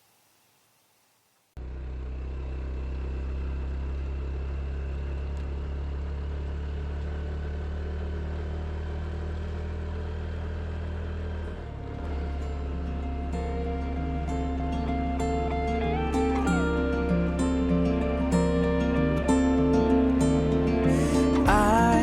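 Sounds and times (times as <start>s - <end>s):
motorcycle engine running: 1.6s - 22.0s.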